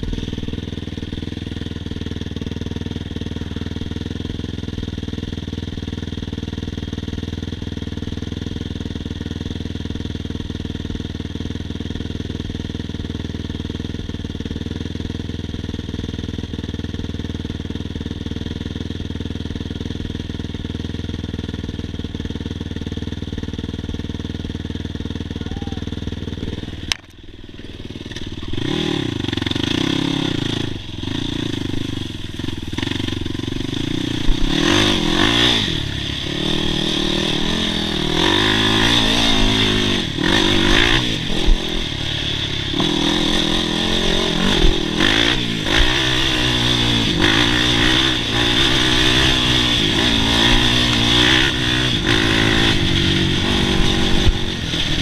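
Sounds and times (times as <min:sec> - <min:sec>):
engine idling: 0:00.0 - 0:45.9
engine revving while riding: 0:00.0 - 0:55.0.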